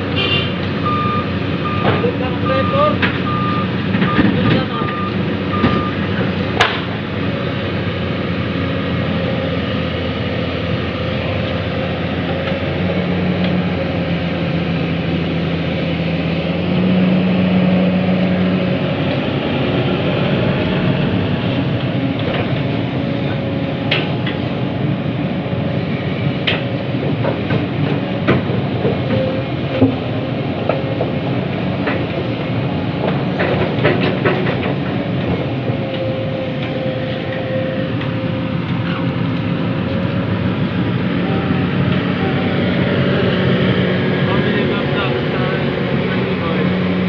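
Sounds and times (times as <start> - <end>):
diesel excavator engine: 0.0 - 47.0.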